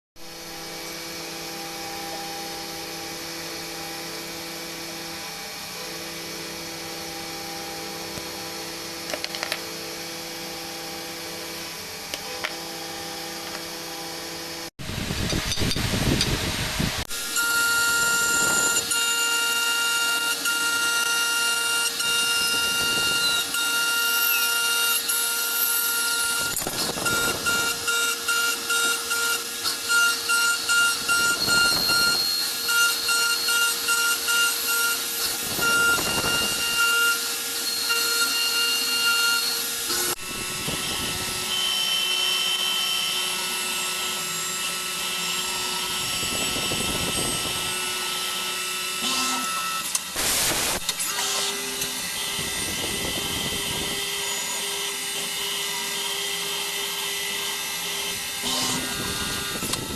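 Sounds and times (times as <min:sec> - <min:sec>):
cnc spindle whine: 0:00.2 - 0:59.9.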